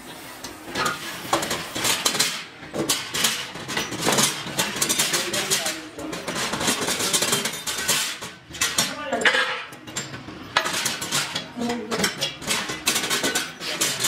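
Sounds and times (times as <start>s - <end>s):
steel pipes clanking together: 0.7s - 14.0s.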